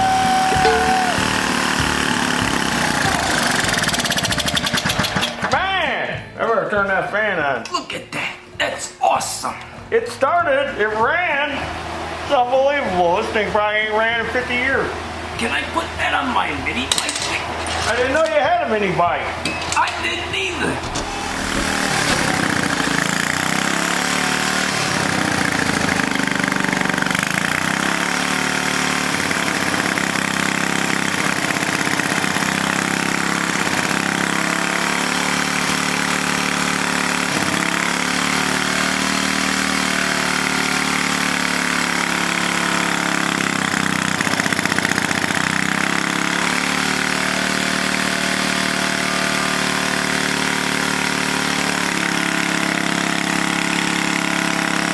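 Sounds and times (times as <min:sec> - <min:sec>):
single-cylinder engine running: 0:00.0 - 0:05.8, 0:09.8 - 0:54.9.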